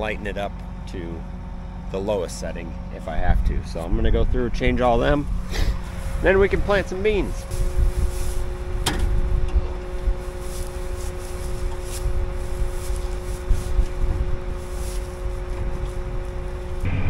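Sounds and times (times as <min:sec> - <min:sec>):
two-note machine hum: 0:00.0 - 0:17.0
wind rumble on microphone: 0:03.0 - 0:17.0.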